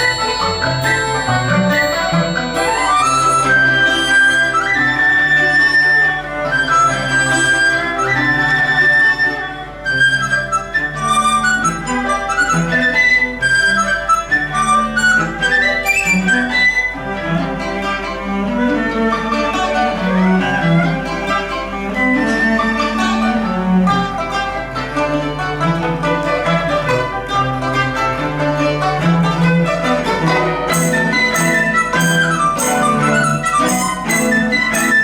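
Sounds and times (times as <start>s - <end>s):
bowed strings: 0.0s - 35.0s
plucked and struck string notes: 0.0s - 35.0s.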